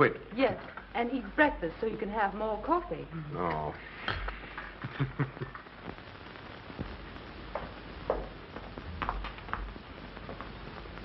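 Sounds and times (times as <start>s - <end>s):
film soundtrack hiss and hum: 0.0s - 11.0s.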